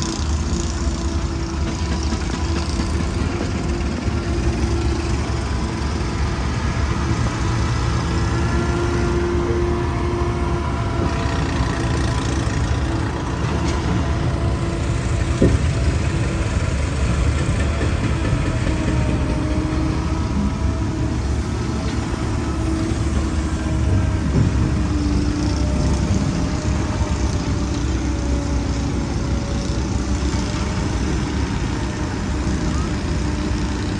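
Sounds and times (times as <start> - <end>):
heavy vehicle engine running: 0.0 - 33.9.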